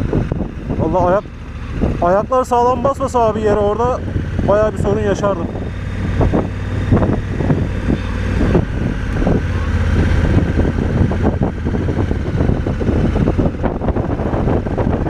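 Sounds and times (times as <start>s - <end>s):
knocks and rattles from rough road: 0.0s - 15.0s
motorcycle engine running: 0.0s - 15.0s.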